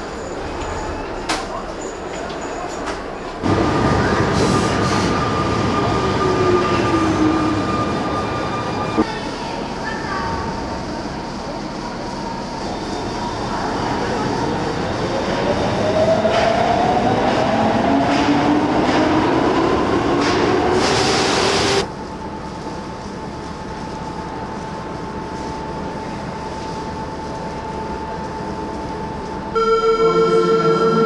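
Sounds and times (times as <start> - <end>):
train running hum: 2.8 - 31.0.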